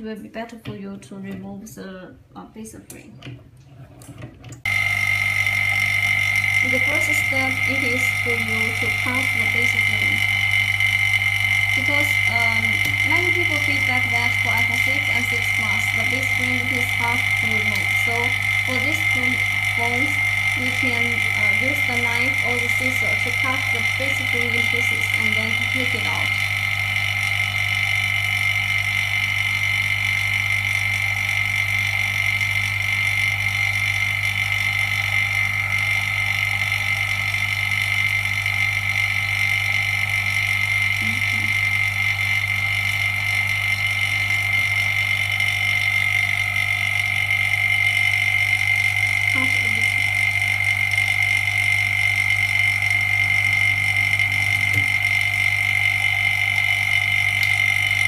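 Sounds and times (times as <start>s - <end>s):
electrical machine hum: 0.0s - 58.0s.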